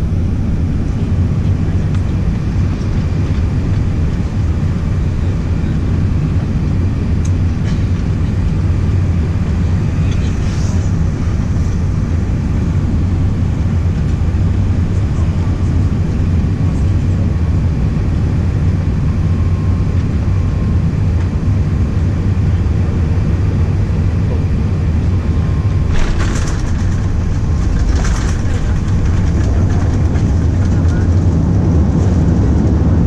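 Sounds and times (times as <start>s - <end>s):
plane engines rumbling: 0.0s - 33.0s.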